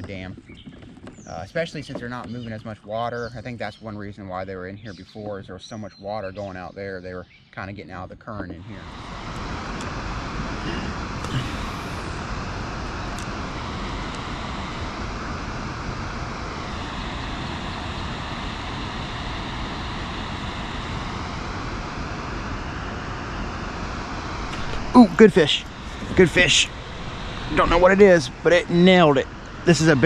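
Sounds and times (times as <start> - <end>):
faint wavering whine: 0.0 - 30.0.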